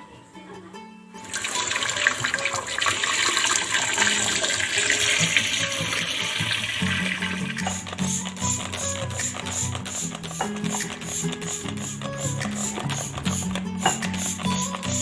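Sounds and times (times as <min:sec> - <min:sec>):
background music: 0:00.0 - 0:15.0
water running from a tap: 0:01.2 - 0:15.0.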